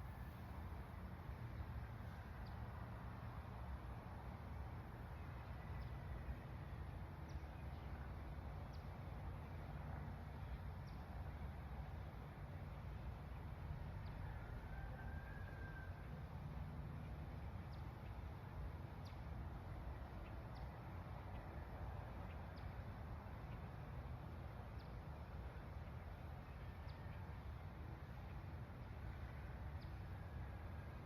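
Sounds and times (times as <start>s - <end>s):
low steady rumble: 0.0s - 31.0s.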